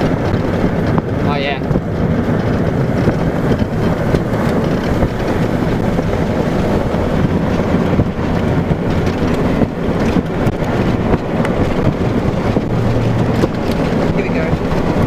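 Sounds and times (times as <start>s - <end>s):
low vehicle hum: 0.0s - 15.0s
wind rumbling on microphone: 0.0s - 15.0s.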